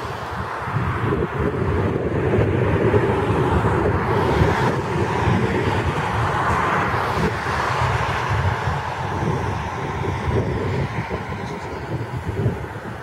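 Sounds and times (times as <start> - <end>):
wind gusting over microphone: 0.0 - 13.0.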